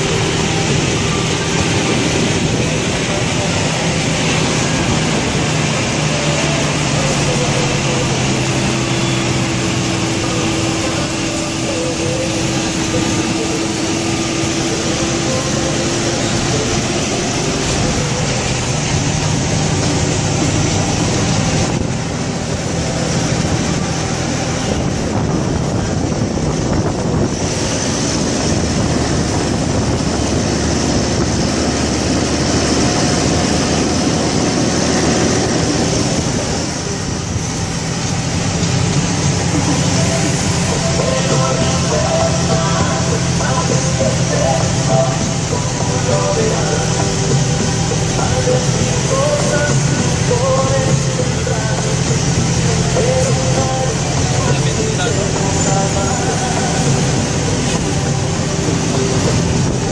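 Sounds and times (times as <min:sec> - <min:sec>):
diesel truck engine running: 0:00.0 - 0:59.9
wind and road noise: 0:00.0 - 0:59.9.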